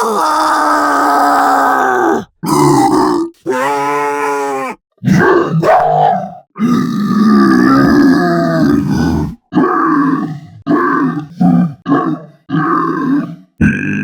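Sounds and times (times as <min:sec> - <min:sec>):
loud creature calls: 0:00.0 - 0:14.0.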